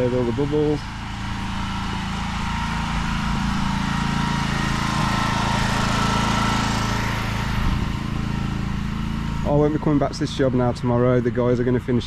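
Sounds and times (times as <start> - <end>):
petrol engine running: 0.0 - 12.0.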